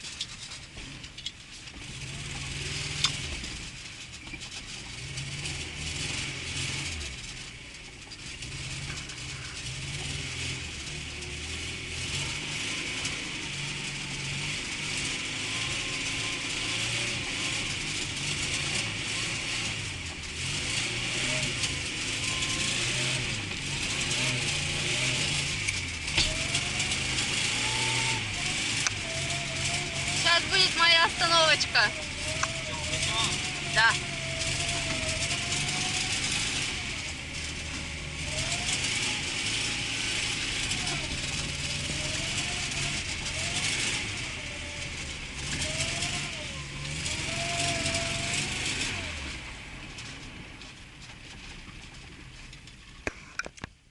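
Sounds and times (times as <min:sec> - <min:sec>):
car engine revving: 0:00.0 - 0:53.4
wind and road noise: 0:00.0 - 0:53.9.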